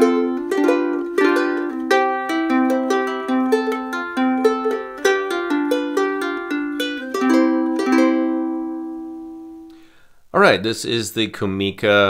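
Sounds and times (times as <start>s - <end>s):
ukulele plucked and strummed: 0.0s - 9.8s.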